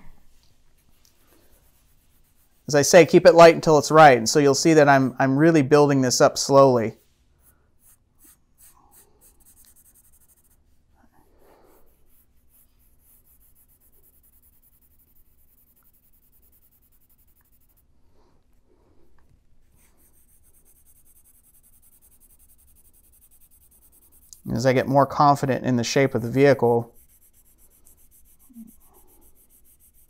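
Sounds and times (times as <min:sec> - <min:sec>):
pencil scratching on paper: 0:00.6 - 0:03.6, 0:06.5 - 0:10.8, 0:11.4 - 0:17.9, 0:19.6 - 0:30.0.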